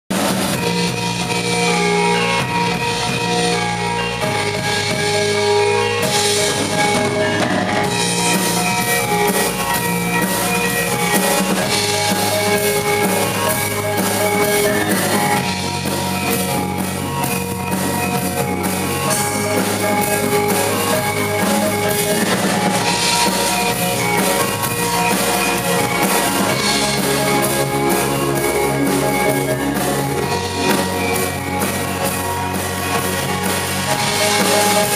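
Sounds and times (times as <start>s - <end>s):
drum kit beat: 0.1s - 34.9s
electric bass: 0.1s - 34.9s
gamelan gongs ringing: 0.5s - 34.9s.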